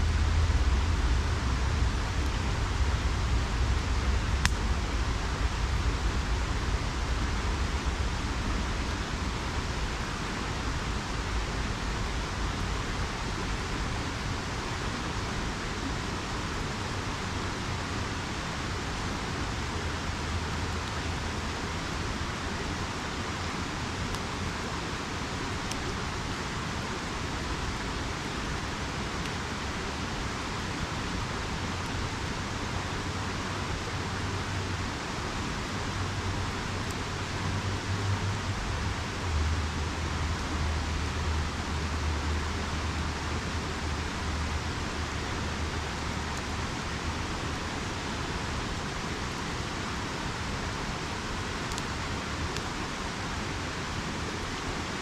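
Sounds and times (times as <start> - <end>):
campfire crackling: 0.0 - 55.0
river rushing: 0.0 - 55.0.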